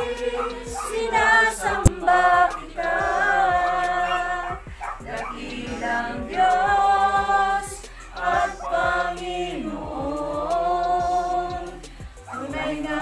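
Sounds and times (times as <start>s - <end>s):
group singing a cappella: 0.0s - 13.0s.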